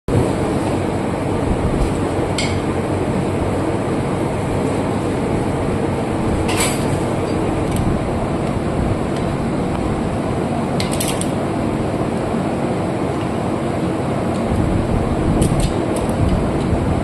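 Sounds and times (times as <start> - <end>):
engine-like drone: 0.1 - 17.0.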